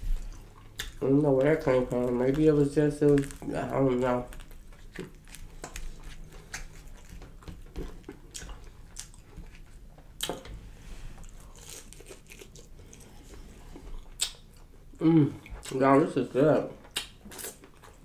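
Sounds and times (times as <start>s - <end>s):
chewing crunchy fried fish: 0.1s - 10.4s, 11.2s - 18.0s.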